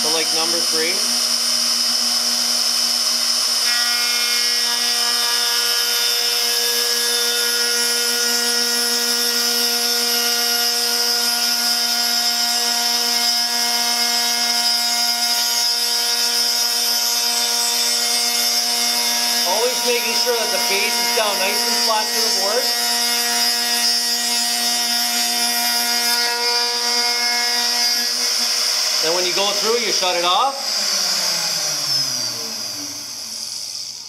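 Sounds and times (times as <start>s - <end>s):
router whining while cutting wood: 0.0s - 34.0s.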